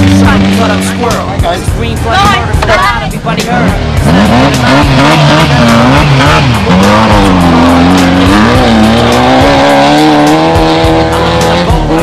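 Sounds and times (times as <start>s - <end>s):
engine revving: 0.0s - 12.0s
rap-rock music: 0.0s - 12.0s.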